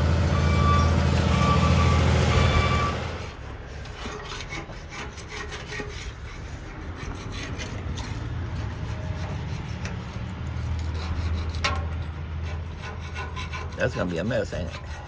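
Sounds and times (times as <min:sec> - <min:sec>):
rubbing and scraping: 0:02.3 - 0:15.0.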